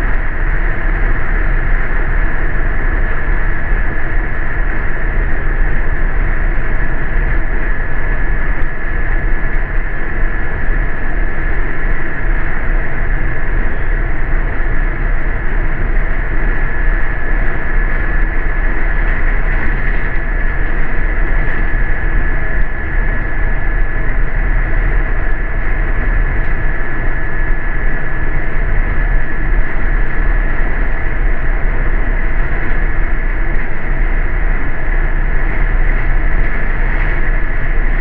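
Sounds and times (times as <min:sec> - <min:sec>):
bus engine and road rumble: 0:00.0 - 0:38.0
constant high whine: 0:00.0 - 0:38.0.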